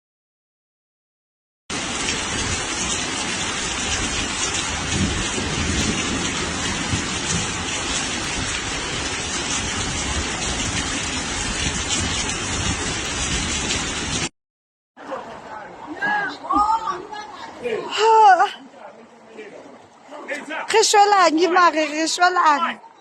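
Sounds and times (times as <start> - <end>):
heavy rain pouring: 1.7 - 14.3, 15.2 - 23.0.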